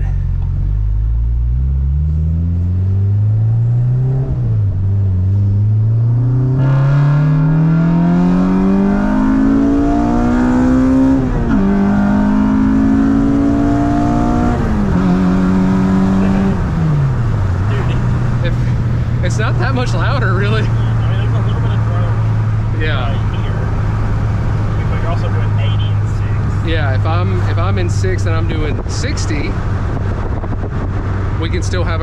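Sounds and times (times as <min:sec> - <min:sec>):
car engine accelerating through gears: 0:00.0 - 0:32.0.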